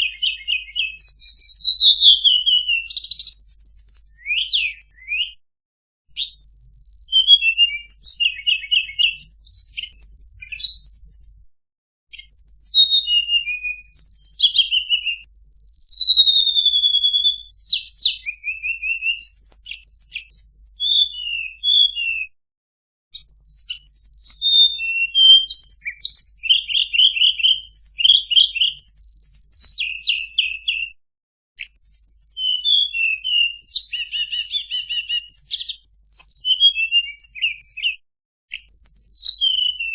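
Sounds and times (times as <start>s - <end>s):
songbird singing: 0.0s - 5.4s, 6.1s - 11.5s, 12.1s - 22.3s, 23.2s - 30.9s, 31.6s - 39.9s.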